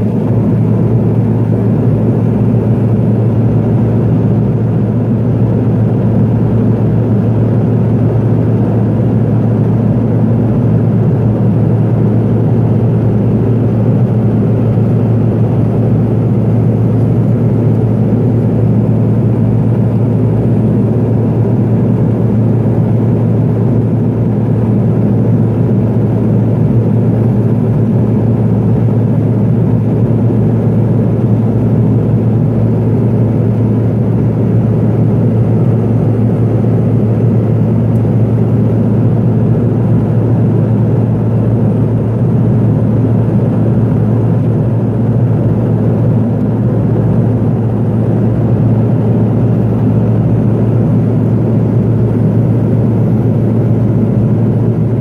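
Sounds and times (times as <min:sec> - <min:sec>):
turboprop cabin drone: 0:00.0 - 0:55.0.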